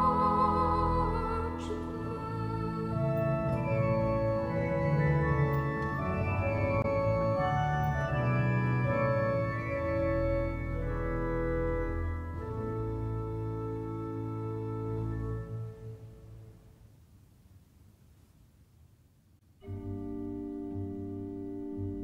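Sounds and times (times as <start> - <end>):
organ music: 0.0 - 16.5, 19.6 - 22.0.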